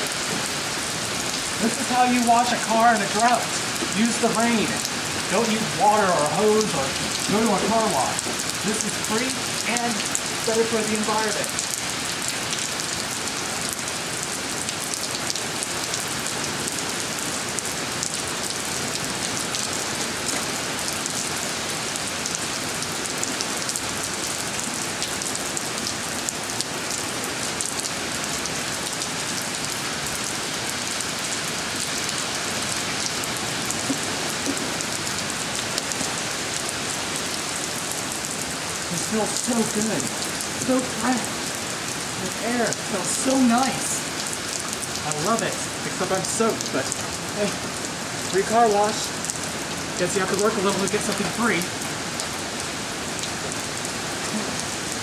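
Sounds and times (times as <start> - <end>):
rain on a wet driveway: 0.0 - 55.0.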